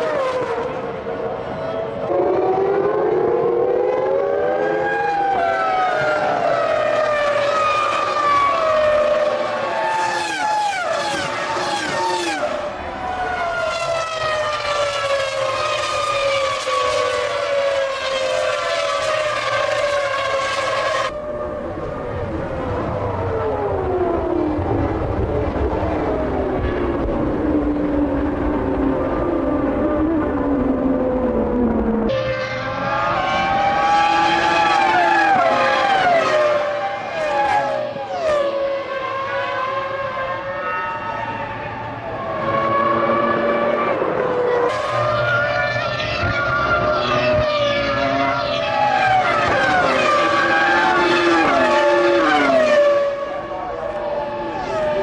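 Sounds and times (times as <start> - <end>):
racing car engine at high revs: 0.0 - 55.0.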